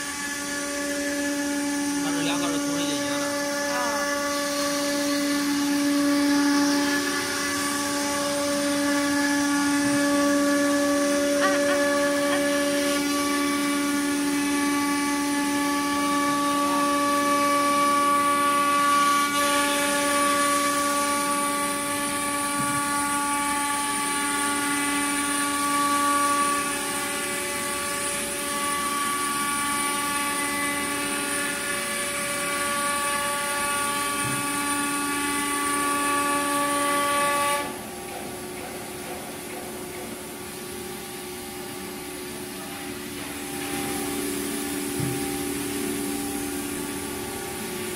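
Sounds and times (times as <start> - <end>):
wood router machine whine: 0.0 - 47.9.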